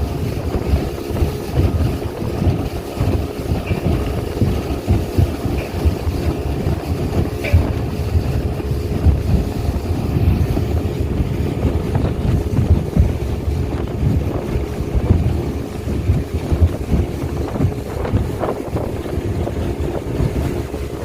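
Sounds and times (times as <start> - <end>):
speedboat engine running: 0.0 - 21.0
wind buffeting microphone: 0.0 - 21.0.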